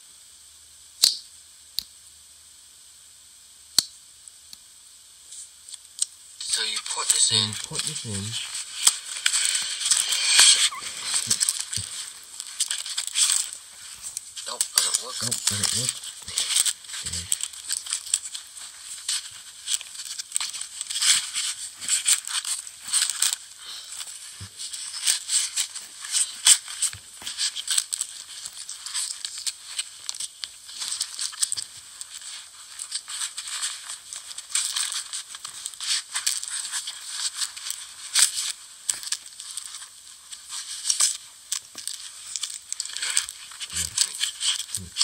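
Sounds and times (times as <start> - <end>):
faint steady hiss: 0.0 - 45.0
fabric rustling and scraping: 6.6 - 45.0.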